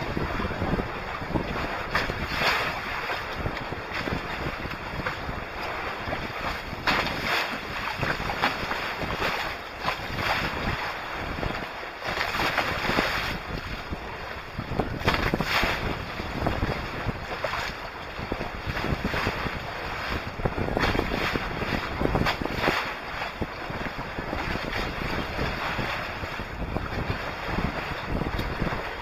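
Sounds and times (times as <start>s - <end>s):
water splashing along hulls: 0.0s - 29.0s
wind buffeting microphone: 0.0s - 29.0s.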